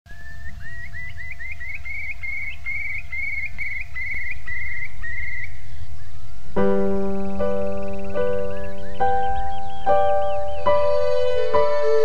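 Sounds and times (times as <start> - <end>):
bird singing trills: 0.1 - 12.0.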